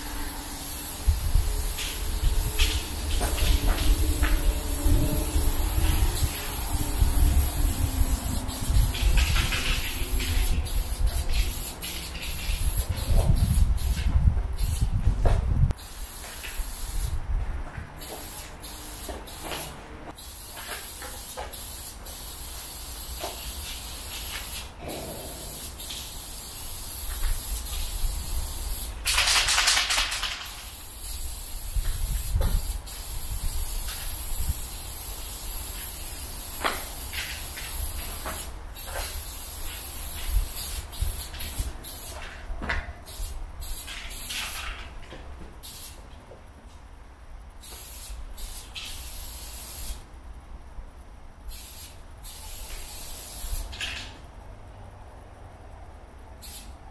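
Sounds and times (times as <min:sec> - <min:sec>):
spray paint can hissing: 0:00.0 - 0:17.2, 0:18.0 - 0:45.0, 0:45.6 - 0:46.0, 0:47.6 - 0:50.1, 0:51.5 - 0:54.2, 0:56.4 - 0:56.9.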